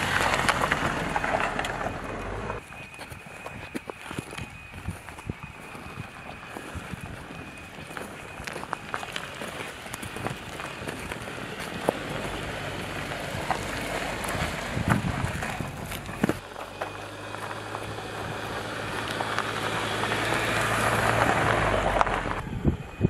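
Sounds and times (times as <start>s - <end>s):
tyres crunching over gravel: 0.0s - 22.6s
low engine hum: 0.0s - 23.0s.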